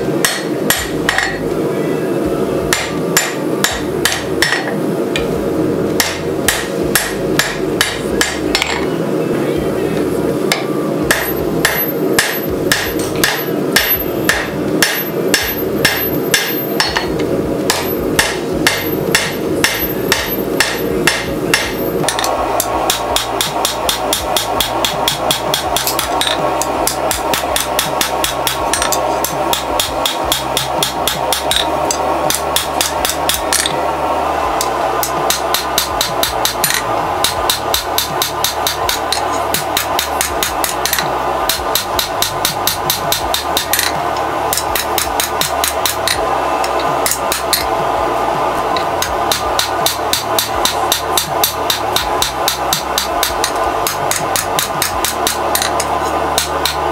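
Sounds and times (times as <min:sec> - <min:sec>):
hammer striking hot steel on anvil: 0:00.2 - 0:01.6, 0:02.7 - 0:05.3, 0:06.0 - 0:08.9, 0:10.5 - 0:33.9, 0:34.5 - 0:48.0, 0:48.6 - 0:56.9.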